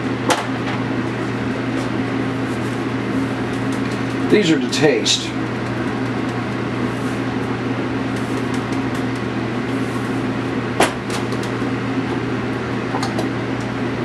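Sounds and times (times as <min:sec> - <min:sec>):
appliance humming: 0:00.0 - 0:14.0.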